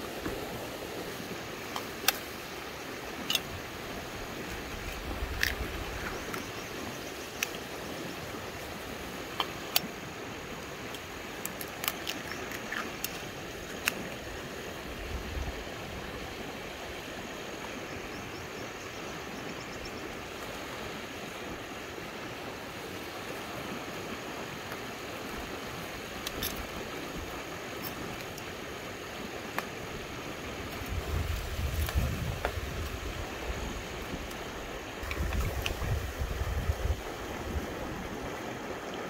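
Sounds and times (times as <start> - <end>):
river flowing: 0.0 - 39.0.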